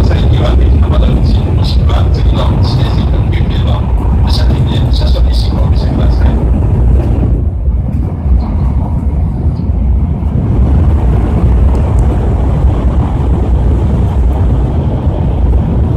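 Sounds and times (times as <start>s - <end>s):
train interior rumble: 0.0s - 15.9s.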